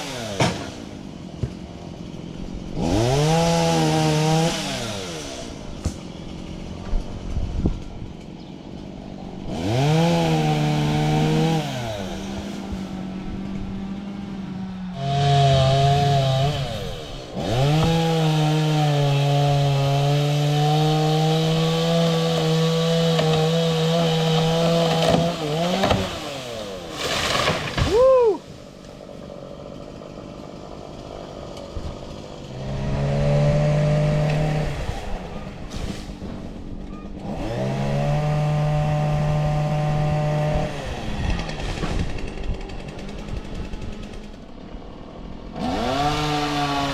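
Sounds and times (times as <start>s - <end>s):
chainsaw revving and cutting: 0.0s - 46.9s.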